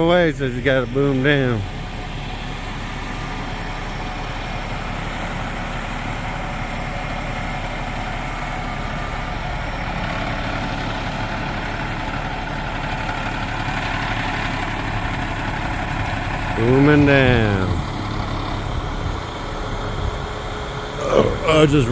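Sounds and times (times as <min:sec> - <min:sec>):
truck engine running: 0:00.0 - 0:21.9.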